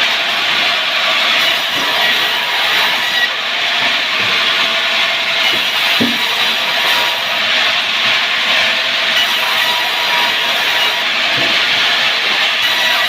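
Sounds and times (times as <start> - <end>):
power saw cutting wood: 0.0 - 13.0.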